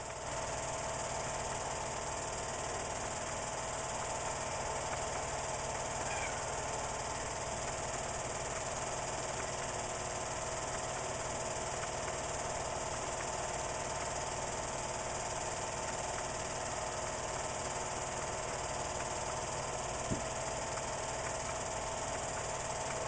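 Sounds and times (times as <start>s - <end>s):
film projector whirring: 0.0s - 23.0s.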